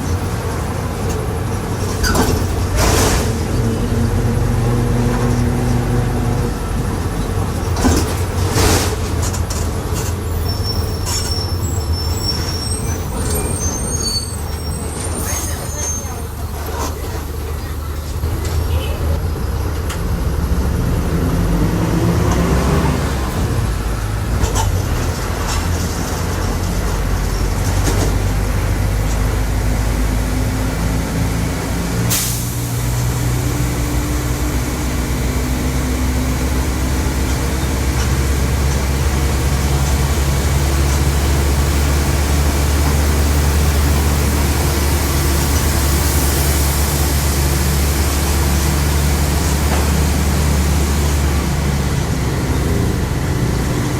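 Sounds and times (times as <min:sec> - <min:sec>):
bus drivetrain drone and whine: 0:00.0 - 0:53.9.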